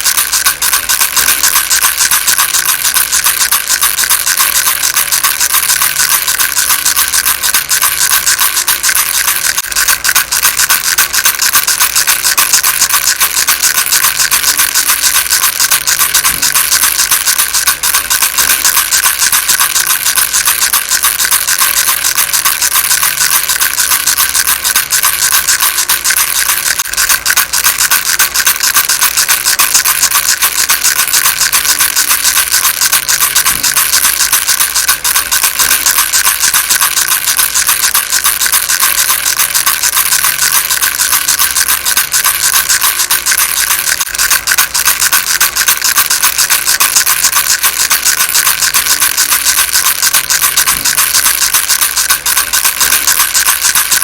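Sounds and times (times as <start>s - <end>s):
baby rattle shaken: 0.0s - 54.0s.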